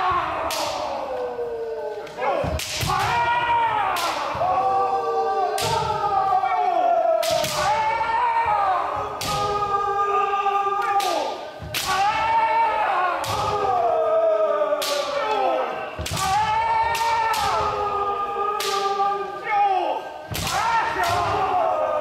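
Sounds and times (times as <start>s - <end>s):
people shouting cries: 0.0s - 22.0s.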